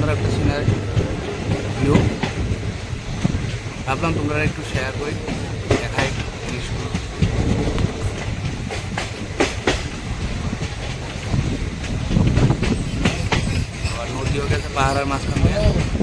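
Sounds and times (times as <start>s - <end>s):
clacks over rail joints: 0.0s - 16.0s
train wheels rumbling on rail: 0.0s - 16.0s.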